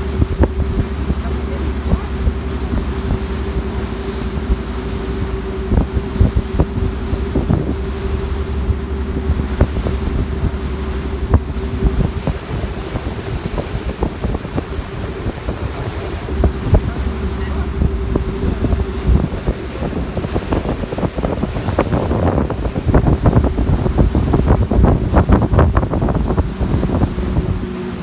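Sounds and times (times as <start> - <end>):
ferry engines droning: 0.0 - 13.9, 14.6 - 24.3
wind buffeting microphone: 0.0 - 28.0.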